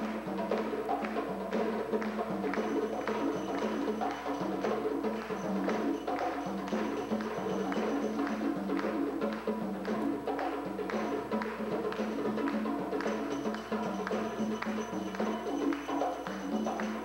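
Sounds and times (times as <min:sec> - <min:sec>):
drum kit and percussion rhythm: 0:00.0 - 0:17.0
live band playing belly dance music: 0:00.0 - 0:17.0.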